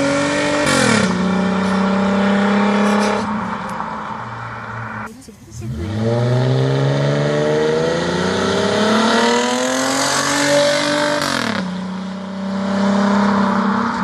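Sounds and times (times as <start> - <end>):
car exhaust accelerating: 0.0 - 14.0.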